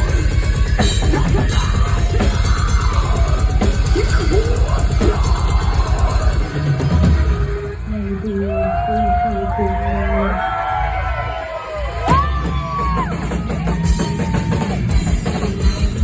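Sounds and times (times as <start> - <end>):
rapid kick-drum hits: 0.0 - 7.8, 10.8 - 16.0
metal band playing live: 0.0 - 16.0.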